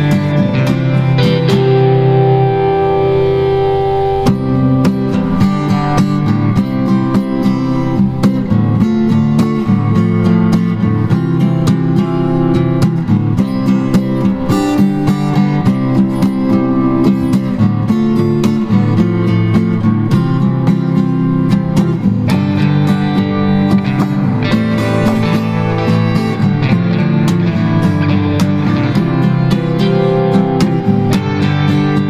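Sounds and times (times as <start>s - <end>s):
guitar playing plucked notes: 0.0s - 32.0s.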